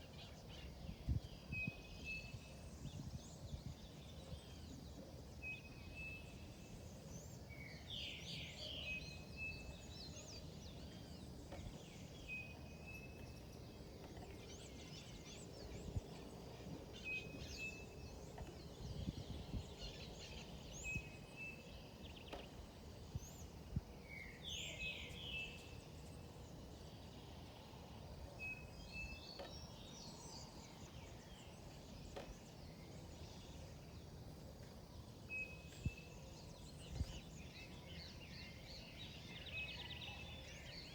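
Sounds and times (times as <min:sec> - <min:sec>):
steady low background noise: 0:00.0 - 0:40.9.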